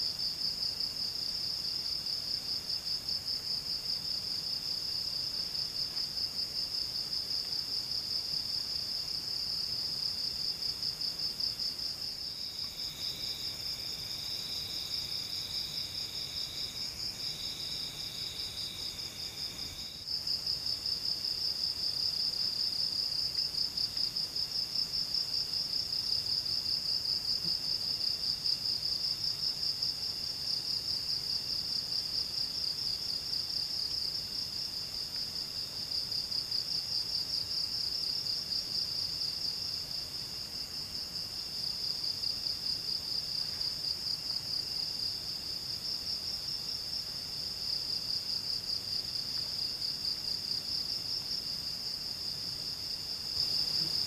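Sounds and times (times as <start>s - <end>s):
faint insect trill: 0.0s - 54.0s.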